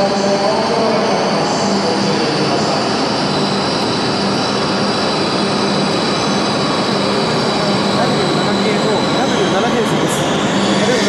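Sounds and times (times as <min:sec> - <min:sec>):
high whine: 0:00.0 - 0:11.0
train rolling past: 0:00.0 - 0:11.0.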